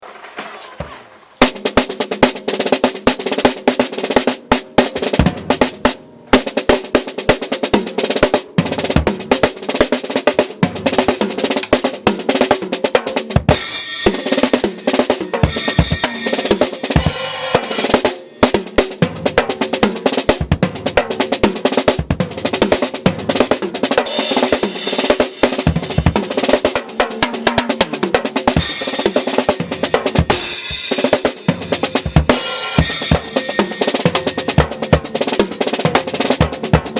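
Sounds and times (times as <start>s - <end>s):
drum kit solo: 0.0s - 36.9s.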